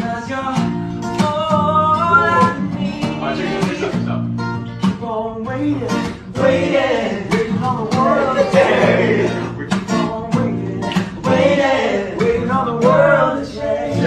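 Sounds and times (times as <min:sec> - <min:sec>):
acoustic guitar strumming: 0:00.0 - 0:14.0
person singing: 0:01.2 - 0:04.1, 0:04.8 - 0:14.0.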